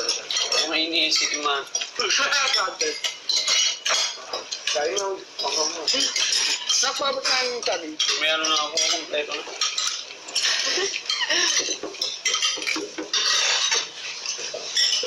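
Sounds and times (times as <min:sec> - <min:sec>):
cutlery scraping a plate: 0:00.0 - 0:15.0.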